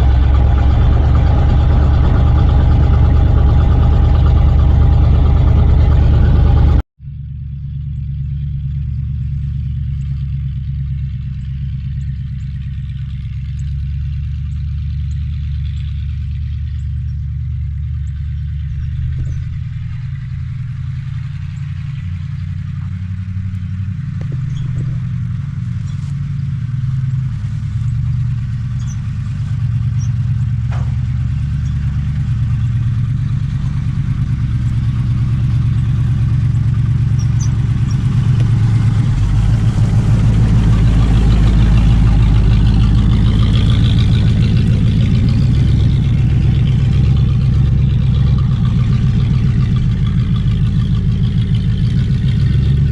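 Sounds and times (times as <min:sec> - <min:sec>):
truck engine rumbling: 0:00.0 - 0:52.9.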